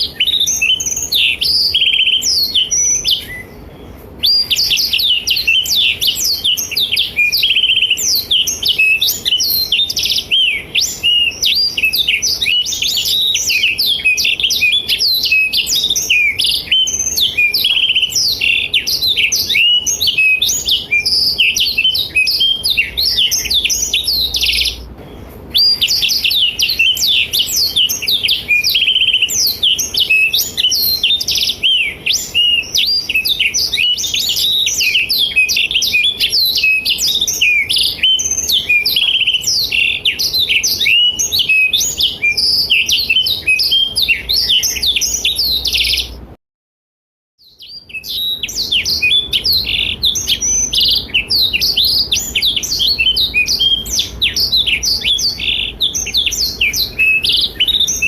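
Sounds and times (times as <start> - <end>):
canary singing: 0.0 - 46.3, 47.4 - 58.0.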